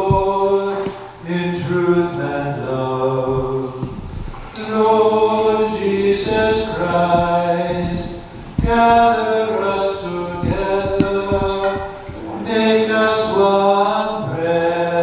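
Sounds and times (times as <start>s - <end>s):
hymn sung slowly: 0.0s - 15.0s.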